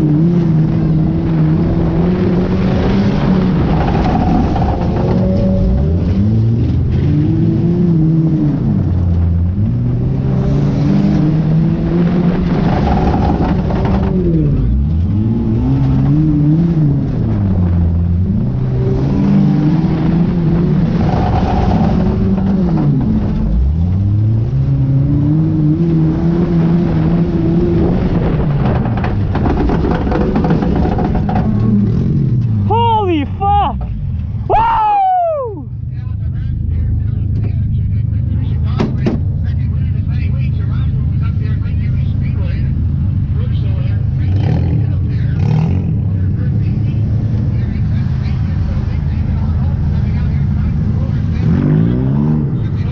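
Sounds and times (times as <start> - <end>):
race car engine revving: 0.0 - 34.5, 35.9 - 52.9.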